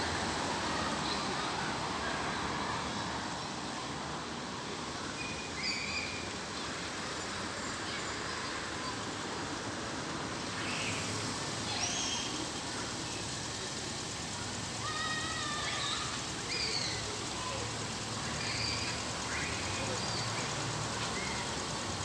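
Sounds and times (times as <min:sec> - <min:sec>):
distant traffic: 0:00.0 - 0:22.0.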